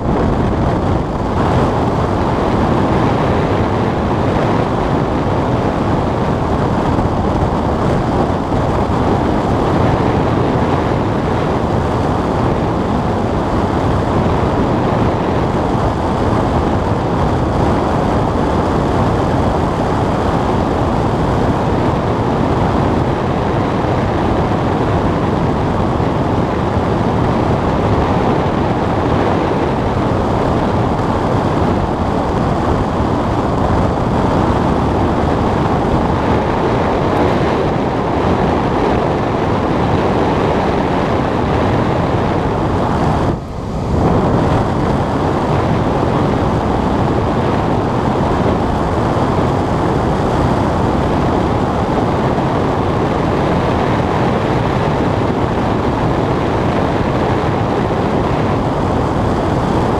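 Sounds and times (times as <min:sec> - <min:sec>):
airflow rushing over canopy: 0:00.0 - 0:59.9.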